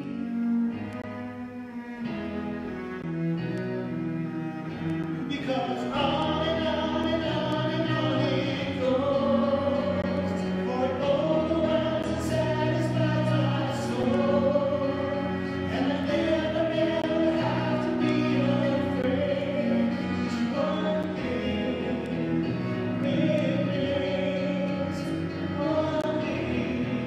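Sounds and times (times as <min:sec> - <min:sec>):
cello and keyboard: 0:00.0 - 0:27.0
man and woman singing: 0:05.3 - 0:27.0.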